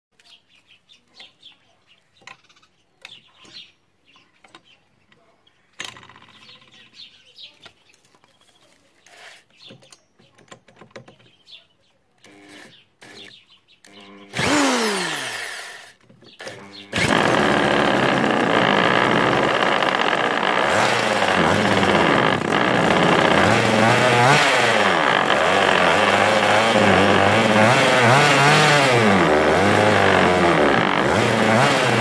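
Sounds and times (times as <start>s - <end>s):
birds chirping: 0.2s - 32.0s.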